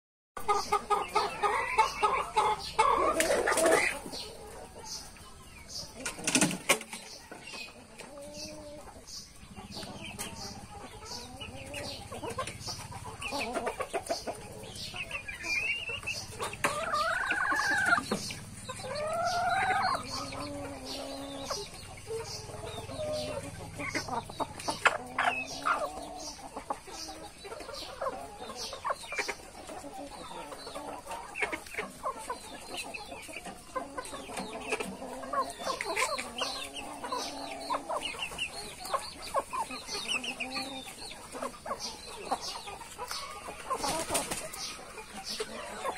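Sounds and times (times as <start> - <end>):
chicken calls: 0.4 - 45.9
chickens clucking: 0.4 - 45.9.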